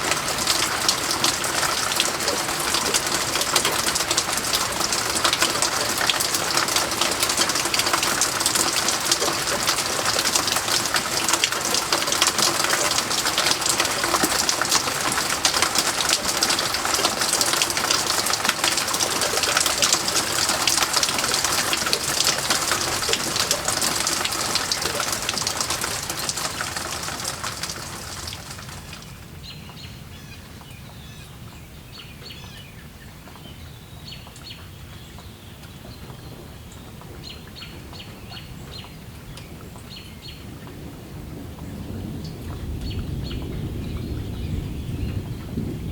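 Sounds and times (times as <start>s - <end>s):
heavy rain: 0.0s - 45.9s.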